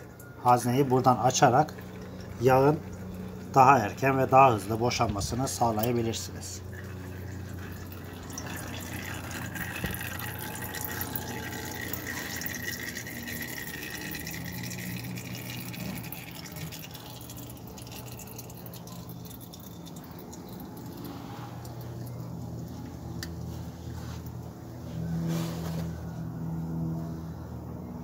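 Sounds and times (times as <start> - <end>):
oil trickling into glass jar: 0.0 - 23.6.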